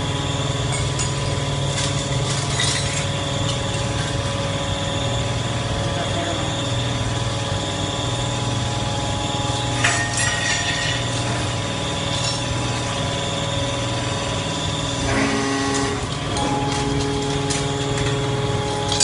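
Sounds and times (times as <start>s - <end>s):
baler machine hum: 0.0s - 19.0s.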